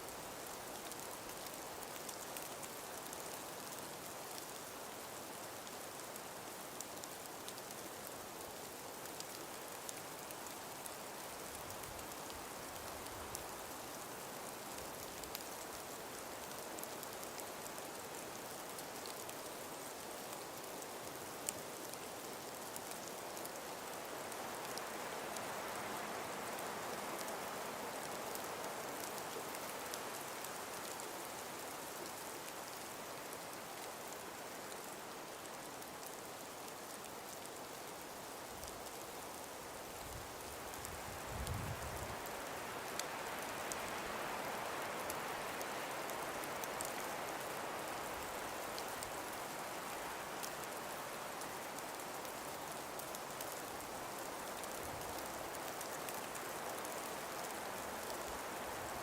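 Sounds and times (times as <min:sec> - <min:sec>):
breeze through forest: 0:00.0 - 0:59.0
faint scattered ticks: 0:00.0 - 0:59.0.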